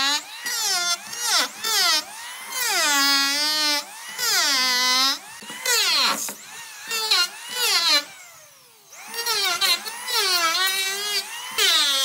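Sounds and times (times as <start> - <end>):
electric planer shaving wood: 0.0 - 12.0.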